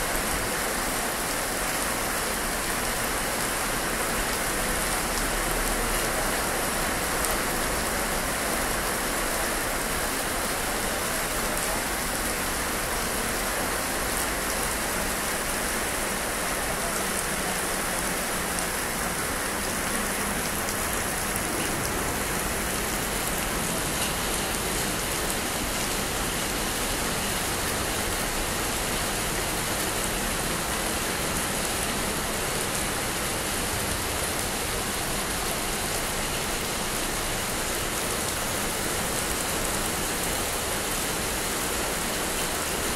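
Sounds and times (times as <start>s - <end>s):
steady rain on wet ground: 0.0s - 42.9s.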